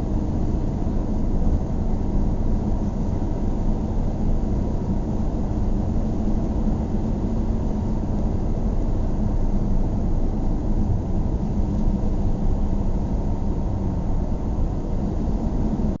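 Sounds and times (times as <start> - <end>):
car road and engine drone: 0.0 - 16.0.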